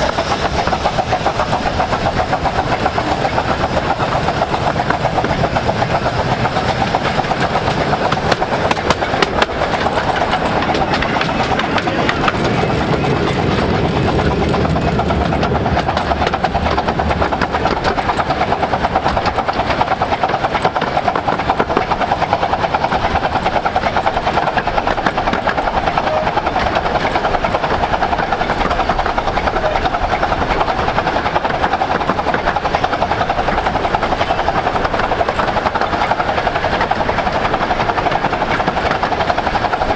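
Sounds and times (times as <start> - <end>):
steam locomotive running at speed: 0.0 - 39.9.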